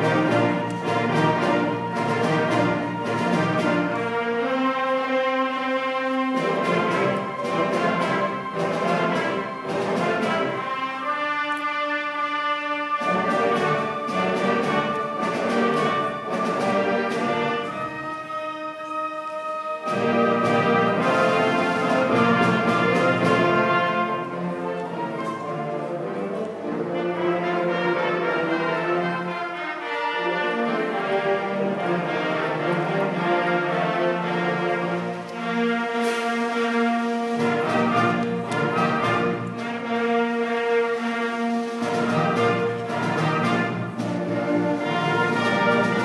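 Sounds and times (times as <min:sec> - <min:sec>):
symphony band with brass: 0:00.0 - 0:46.0.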